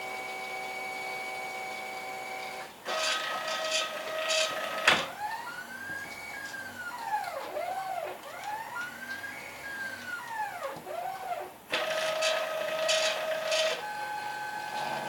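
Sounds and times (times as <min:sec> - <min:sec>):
stepper motors whining: 0:00.2 - 0:15.0.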